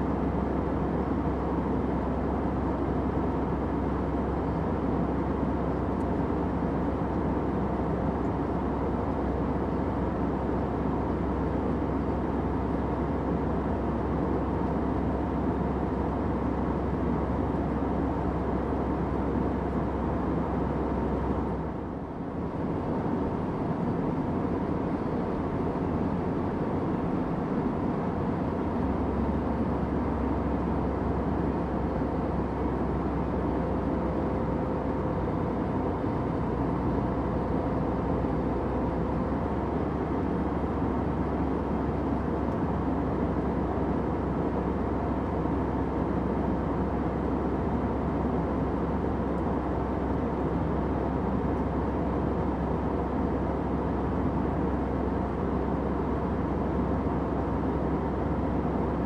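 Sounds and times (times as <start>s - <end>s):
airliner drone in flight: 0.0s - 59.0s.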